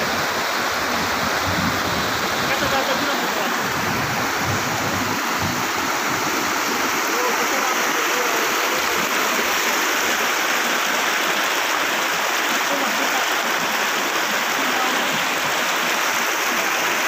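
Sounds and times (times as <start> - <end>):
water rushing through dam gate: 0.0 - 17.0.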